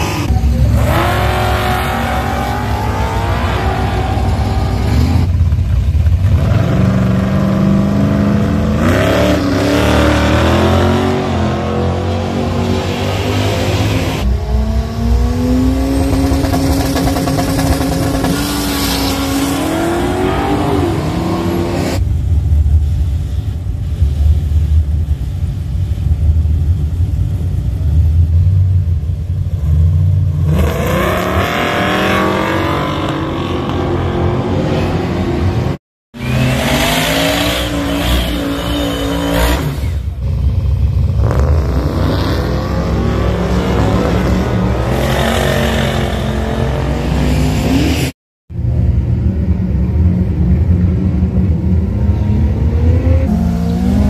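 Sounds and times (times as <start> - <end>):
drag car engines revving: 0.0 - 54.0.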